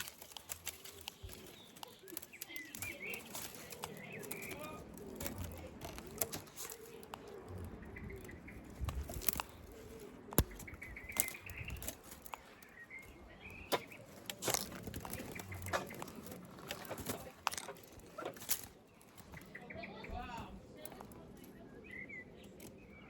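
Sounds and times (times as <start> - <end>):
bird clicks and flutters: 0.0 - 19.8.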